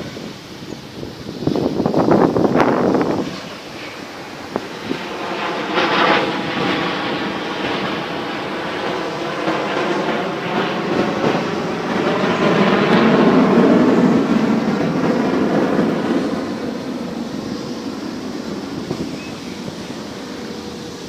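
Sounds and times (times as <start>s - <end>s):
military aircraft flying past: 0.0s - 21.0s.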